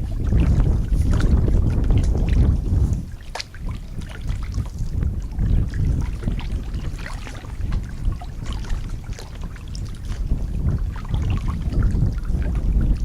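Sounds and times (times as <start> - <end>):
water dripping and splashing: 0.0 - 13.0
wind on microphone: 0.0 - 13.0.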